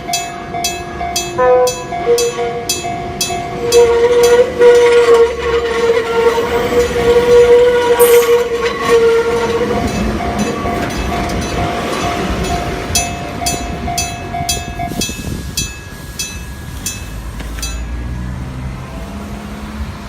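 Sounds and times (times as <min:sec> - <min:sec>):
loud steady tone: 0:00.0 - 0:17.4
level crossing alarm striking: 0:00.0 - 0:18.1
train passing: 0:00.0 - 0:20.0.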